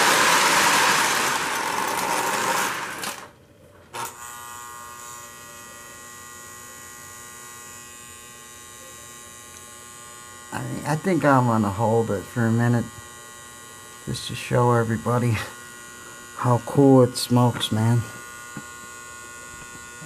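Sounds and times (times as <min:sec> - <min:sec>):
electrical hum and buzz: 0:00.0 - 0:20.0.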